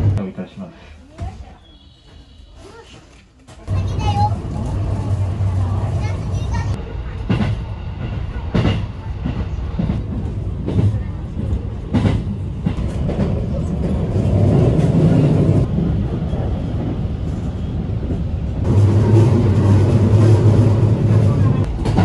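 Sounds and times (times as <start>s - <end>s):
train wheels rumbling on rails: 2.0s - 22.0s
track clacks: 3.7s - 22.0s.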